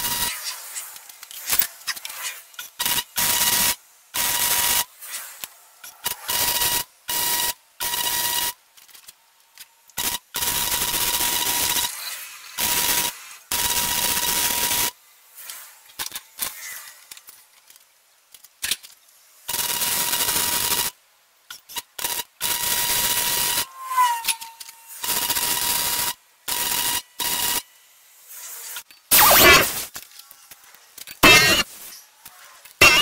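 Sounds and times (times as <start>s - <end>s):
welding arc crackling and hissing: 0.0s - 33.0s.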